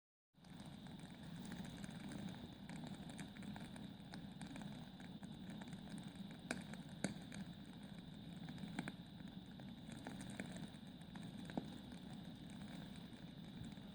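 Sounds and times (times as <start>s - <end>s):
low rumble of flames: 0.4s - 13.9s
logs crackling and popping: 0.5s - 13.9s.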